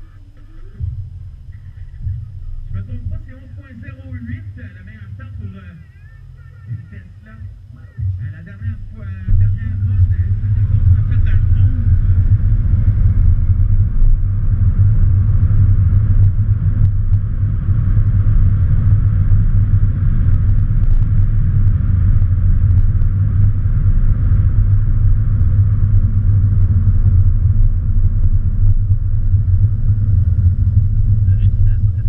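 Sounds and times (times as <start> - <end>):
road and tyre rumble: 0.0 - 32.0.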